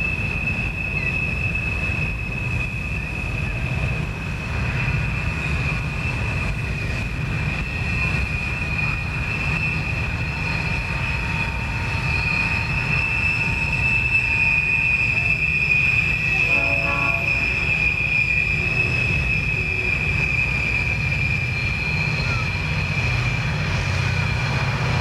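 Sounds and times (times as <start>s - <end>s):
low rolling train rumble: 0.0s - 25.0s
train wheels squealing: 0.0s - 25.0s.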